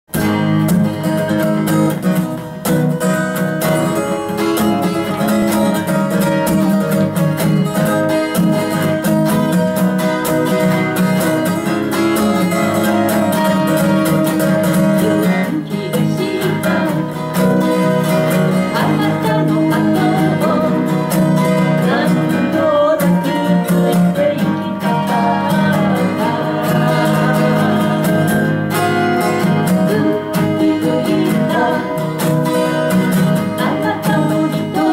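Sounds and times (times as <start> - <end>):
acoustic guitars strumming chords: 0.1 - 34.9.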